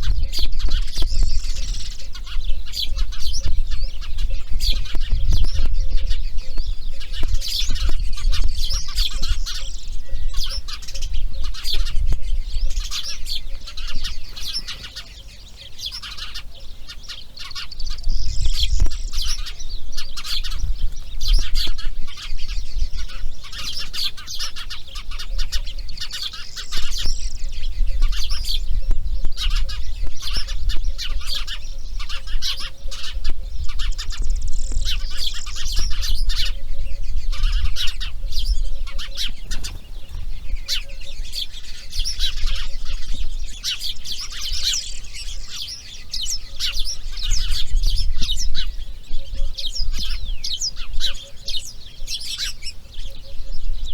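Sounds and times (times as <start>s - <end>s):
birds chirping and chattering: 0.0s - 53.9s.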